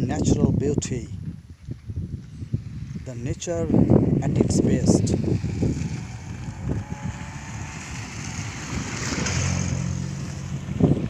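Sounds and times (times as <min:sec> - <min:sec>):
wind blowing over microphone: 0:00.0 - 0:11.0.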